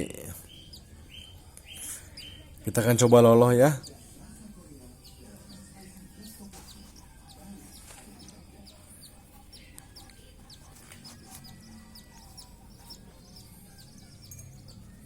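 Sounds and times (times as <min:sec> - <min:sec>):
parrot chicks chirping begging calls: 0:00.4 - 0:04.0, 0:04.9 - 0:15.0.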